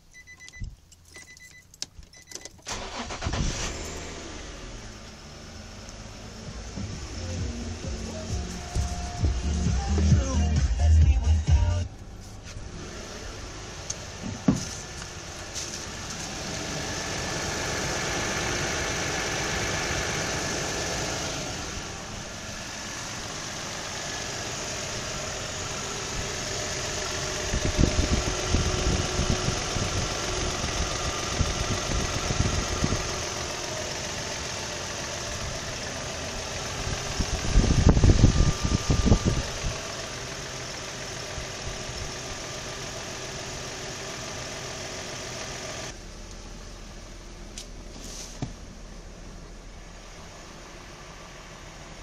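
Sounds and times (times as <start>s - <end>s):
car engine running: 2.6s - 52.0s.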